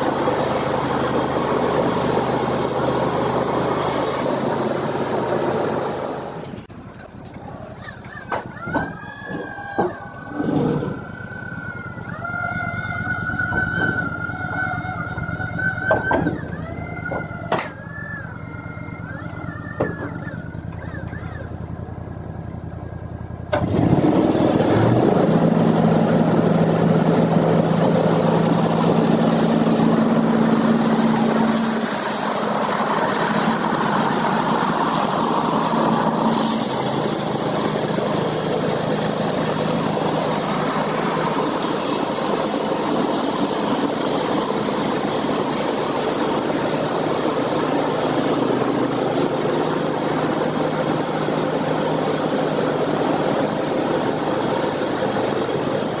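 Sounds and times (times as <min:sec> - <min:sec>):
sawmill engine revving: 0:00.0 - 0:07.8, 0:08.9 - 0:56.0.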